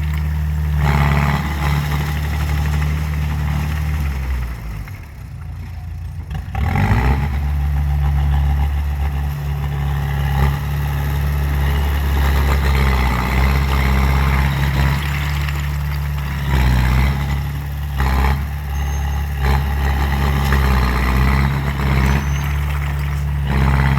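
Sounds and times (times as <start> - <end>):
bulldozer diesel engine humming: 0.0 - 23.9.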